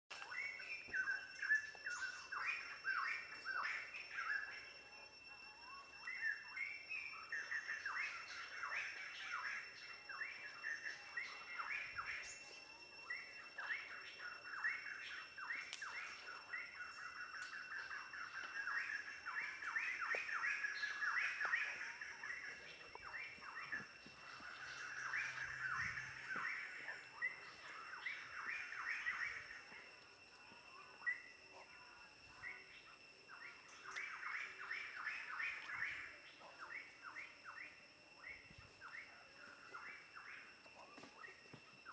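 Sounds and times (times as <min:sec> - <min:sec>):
faint high-pitched tone: 0:00.1 - 0:41.9
small birds chirping: 0:00.1 - 0:41.9.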